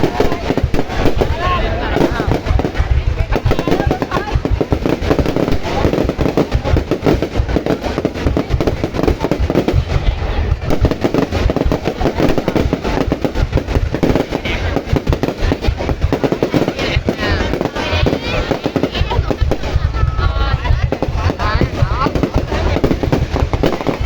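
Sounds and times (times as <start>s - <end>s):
fireworks bangs and crackle: 0.0s - 24.0s.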